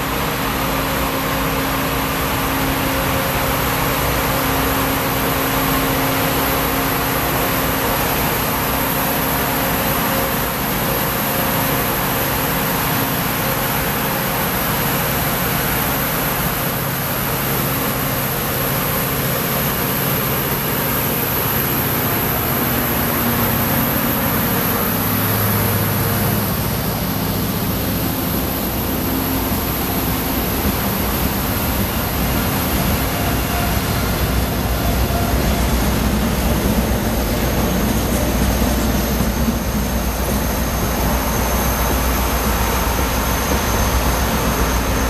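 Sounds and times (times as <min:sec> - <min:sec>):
diesel locomotive engines droning: 0:00.0 - 0:45.0
train wheel and rail noise: 0:00.0 - 0:45.0.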